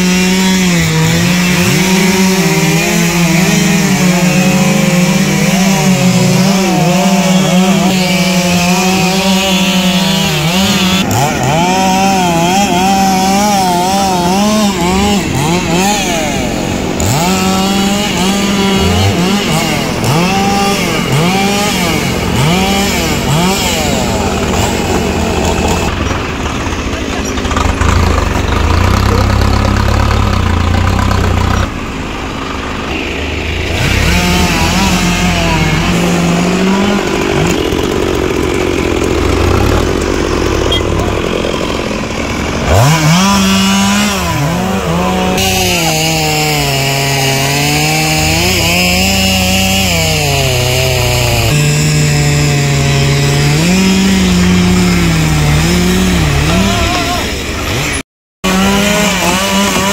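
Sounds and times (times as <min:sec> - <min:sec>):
tractor diesel engine running: 0:00.0 - 0:58.0
chainsaw revving: 0:00.0 - 0:59.9.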